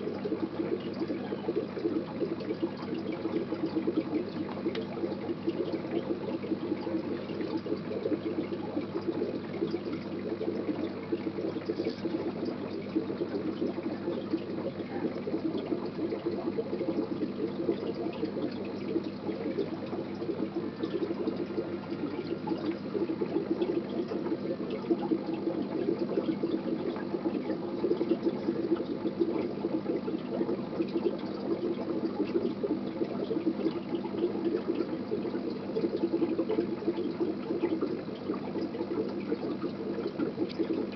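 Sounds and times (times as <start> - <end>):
aquarium water bubbling: 0.0 - 40.9.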